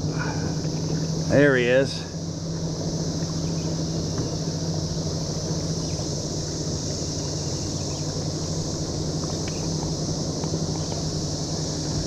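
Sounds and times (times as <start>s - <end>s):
cicada chorus drone: 0.0s - 12.0s
low hum: 0.0s - 12.0s.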